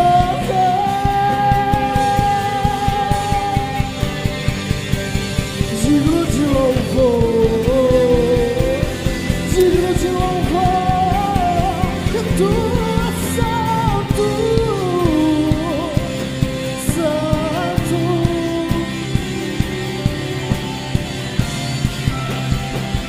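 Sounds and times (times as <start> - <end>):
man singing: 0.0 - 4.4, 5.6 - 20.1
acoustic guitar: 0.0 - 23.0
electric guitar: 0.0 - 23.0
keyboard: 0.0 - 23.0
steady drum beat: 0.0 - 23.0.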